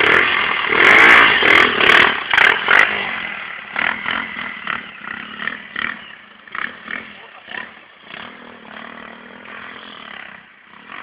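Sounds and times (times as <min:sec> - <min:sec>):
small motorcycle engine revving: 0:00.0 - 0:11.0.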